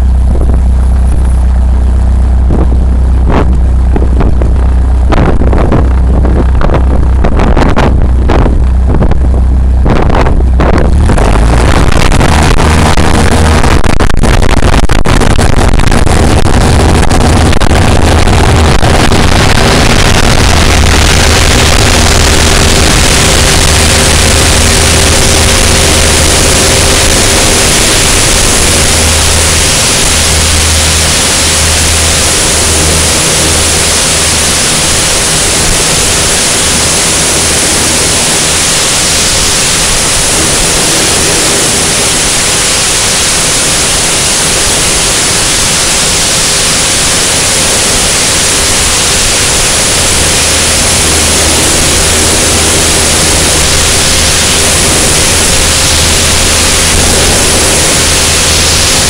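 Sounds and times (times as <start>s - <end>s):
heavy wind rushing: 0.0s - 59.0s
plane engine and propeller hum: 0.0s - 59.0s.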